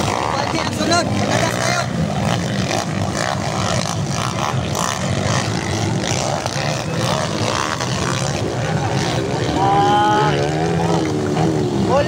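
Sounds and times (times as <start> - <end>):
dirt bike engines droning: 0.0 - 12.0.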